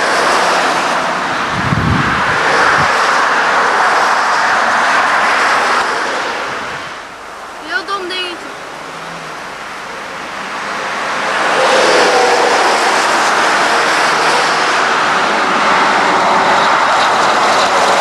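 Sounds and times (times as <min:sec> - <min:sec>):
truck passing on highway: 0:00.0 - 0:18.0.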